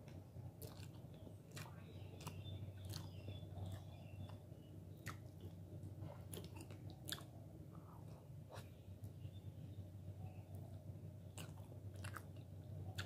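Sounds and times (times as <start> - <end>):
person chewing food: 0.0 - 9.2, 10.5 - 13.0
fingers squishing food: 0.0 - 9.4, 10.3 - 13.0
low steady hum: 0.0 - 13.0.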